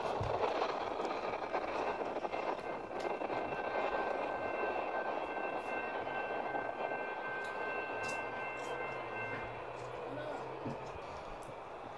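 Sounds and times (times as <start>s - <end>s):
freight train rumble: 0.0s - 11.9s
steady high tones: 0.6s - 11.9s.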